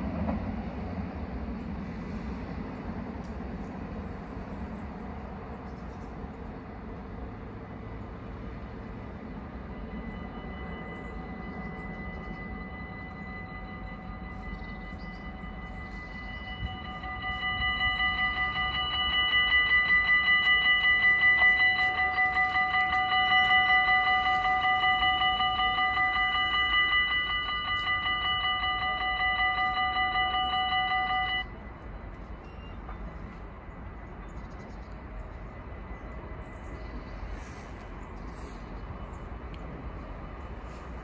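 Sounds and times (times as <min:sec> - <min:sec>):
level crossing warning bells: 0:00.0 - 0:41.0.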